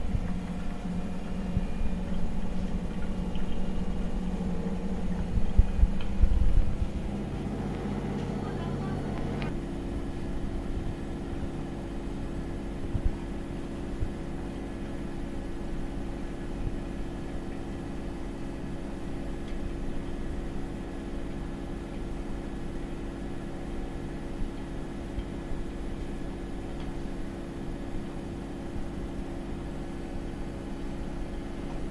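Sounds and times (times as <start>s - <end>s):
washing machine motor hum: 0.0s - 31.9s.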